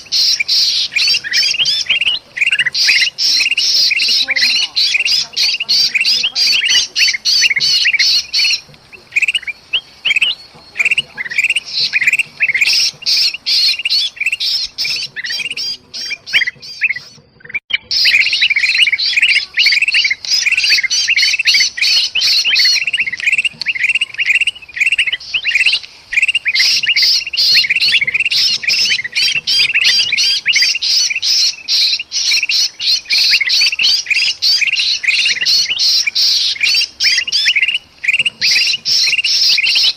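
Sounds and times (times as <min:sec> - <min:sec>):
bulbuls squawking alarm calls: 0:00.0 - 0:39.9.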